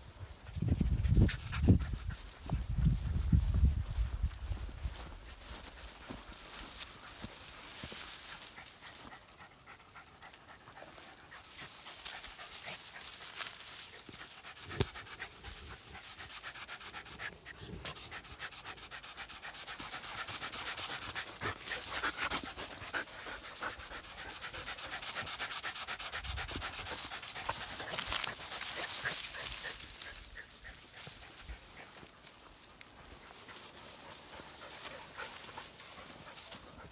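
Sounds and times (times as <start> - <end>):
dog panting: 0.4 - 3.2, 5.0 - 36.9.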